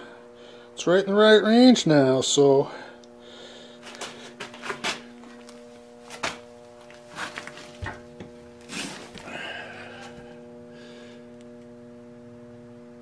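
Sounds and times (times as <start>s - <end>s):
band saw motor humming: 0.0s - 13.0s.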